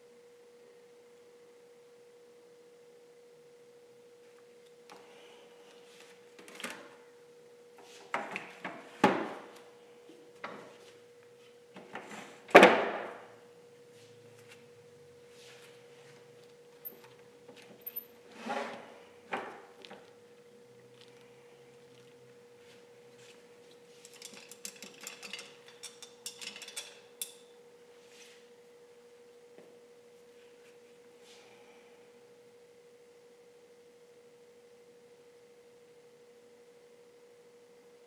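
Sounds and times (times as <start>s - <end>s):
faint high hum: 0.0s - 38.0s.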